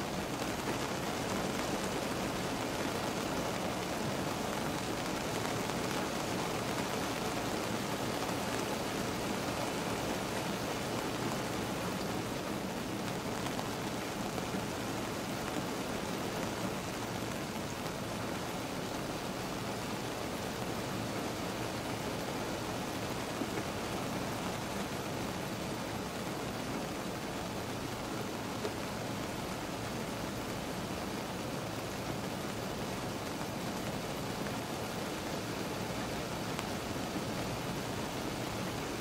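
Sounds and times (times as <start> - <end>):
rain on car roof: 0.0 - 39.0.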